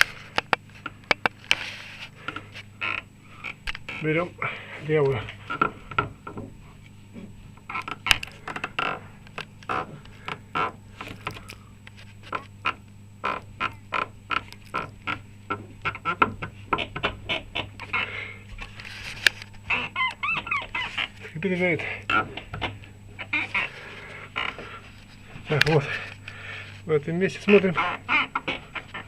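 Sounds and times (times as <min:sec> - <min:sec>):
rubber bushing squeaking: 0:00.0 - 0:29.0.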